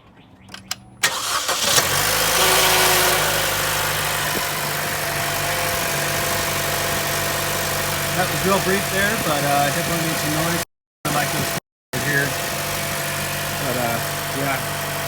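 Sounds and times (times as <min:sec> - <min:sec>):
car engine starting: 0:00.5 - 0:15.0
engine rattle: 0:00.5 - 0:15.0
car engine idling: 0:00.8 - 0:15.0.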